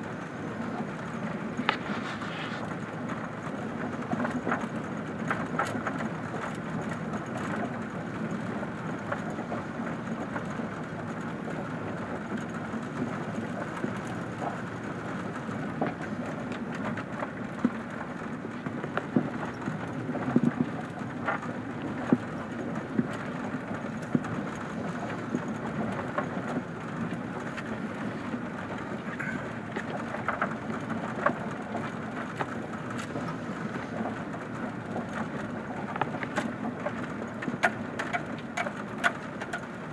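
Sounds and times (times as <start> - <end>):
vehicle engine and tyres rumbling: 0.0 - 39.9.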